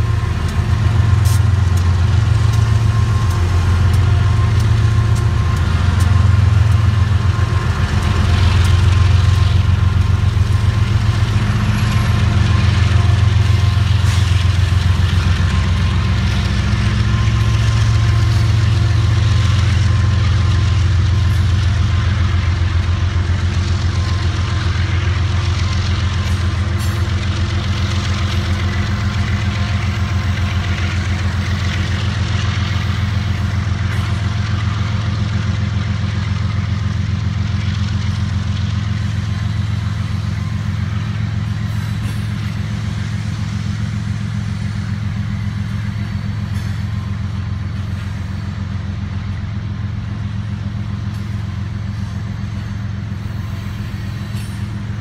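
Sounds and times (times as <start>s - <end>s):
diesel locomotive drone: 0.0s - 55.0s
train wheels rumbling on rails: 0.0s - 55.0s.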